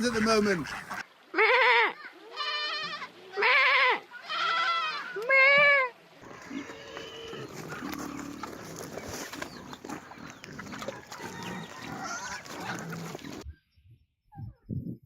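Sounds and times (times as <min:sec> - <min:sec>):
animals making low calls: 0:00.0 - 0:13.5.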